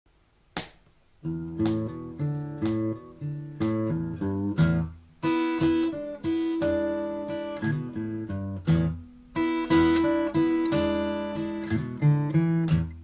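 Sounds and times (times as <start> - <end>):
acoustic guitar playing: 1.2 - 13.0.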